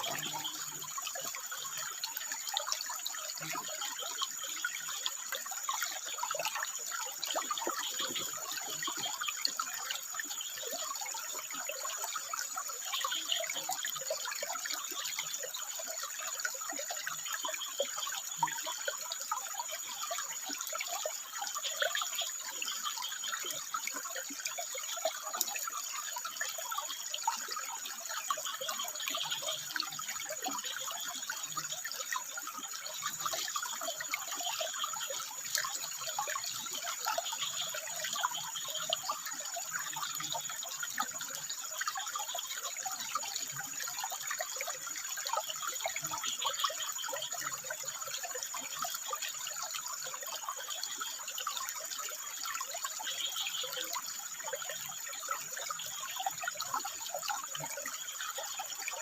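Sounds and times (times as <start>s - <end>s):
stream babbling over rocks: 0.0s - 59.0s.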